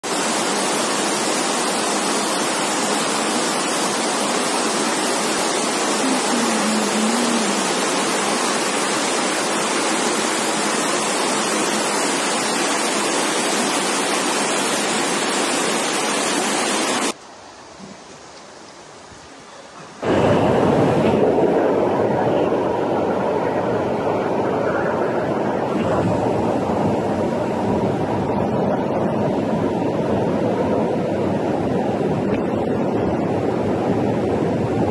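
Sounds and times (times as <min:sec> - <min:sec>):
flood water rushing: 0:00.0 - 0:34.9.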